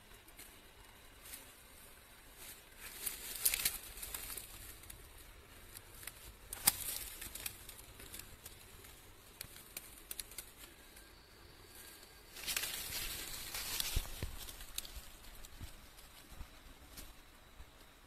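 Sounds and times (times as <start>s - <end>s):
rustling in dry leaf litter: 0.0s - 17.2s.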